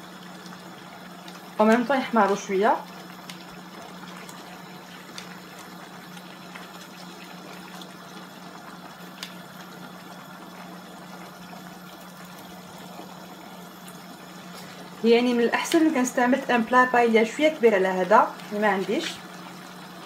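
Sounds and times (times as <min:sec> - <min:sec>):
low steady hum: 0:00.0 - 0:20.0
sauce simmering and bubbling: 0:00.0 - 0:20.0.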